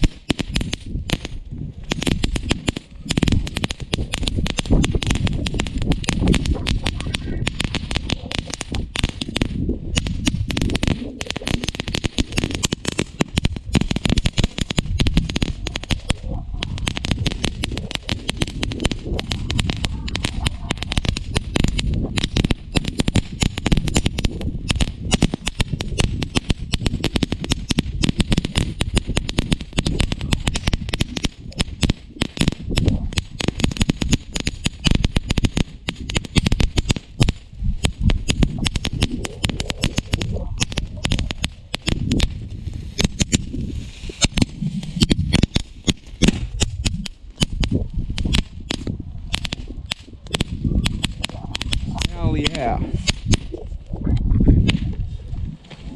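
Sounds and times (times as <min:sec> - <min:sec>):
firework fountain crackling: 0:00.0 - 0:53.6.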